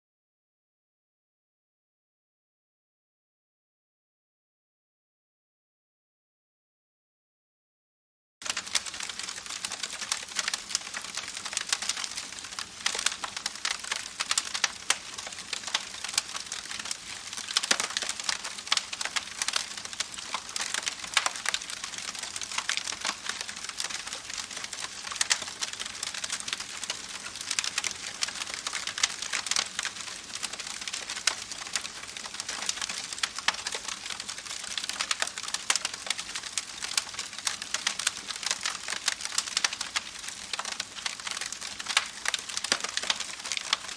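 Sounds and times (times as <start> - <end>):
campfire crackling: 8.4 - 43.9.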